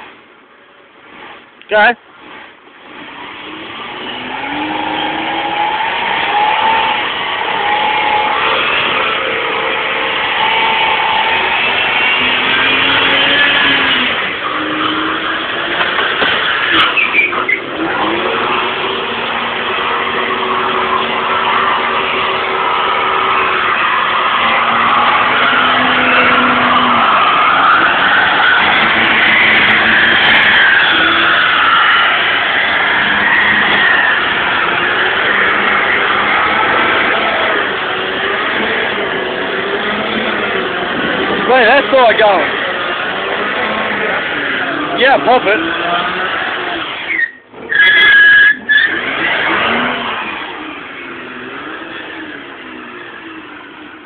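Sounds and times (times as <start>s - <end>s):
car engine revving: 2.1s - 54.0s
tyres spinning: 2.1s - 54.0s.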